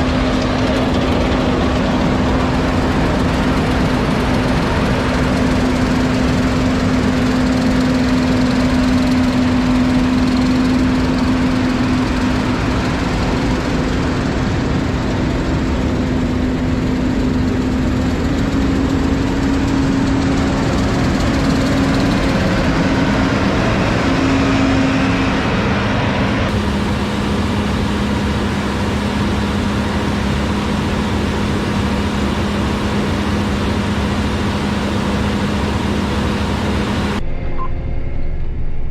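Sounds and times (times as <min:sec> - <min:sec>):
farm machine engine running: 0:00.0 - 0:37.2.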